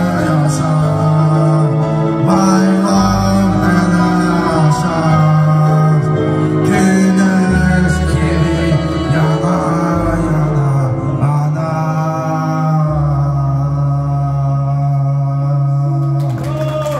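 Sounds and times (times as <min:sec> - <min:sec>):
bass notes: 0:00.0 - 0:16.9
keyboard chords: 0:00.0 - 0:16.9
young man singing: 0:00.0 - 0:16.9.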